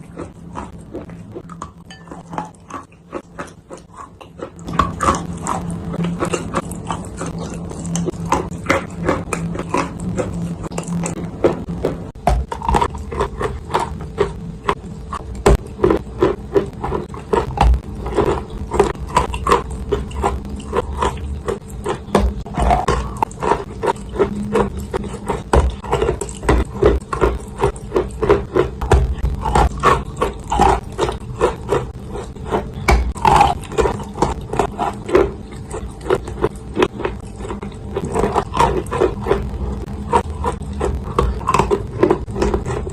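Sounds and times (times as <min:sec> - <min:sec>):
crunching clay being chewed: 0:00.0 - 0:42.9.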